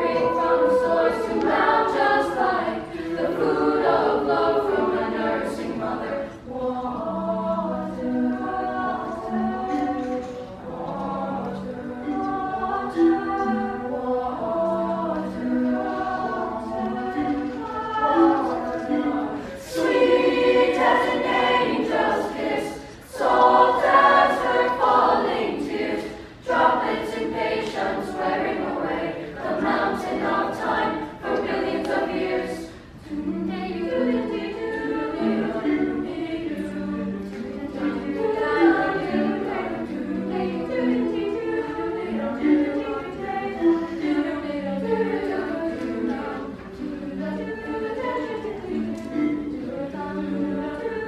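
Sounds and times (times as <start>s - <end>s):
youth choir singing: 0.0s - 51.0s.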